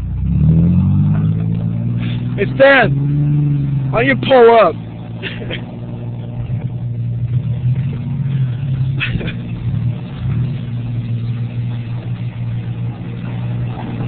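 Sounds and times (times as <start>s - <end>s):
pickup truck engine running: 0.0s - 14.0s.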